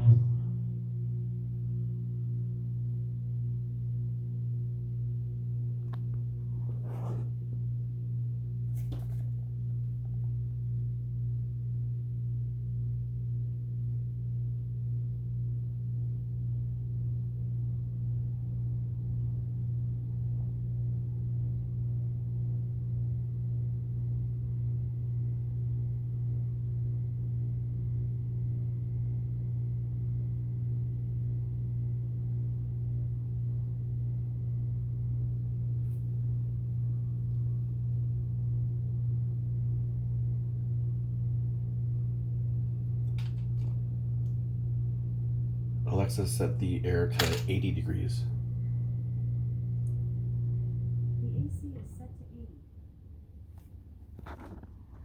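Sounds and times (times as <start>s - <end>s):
air conditioner humming: 0.0s - 55.0s.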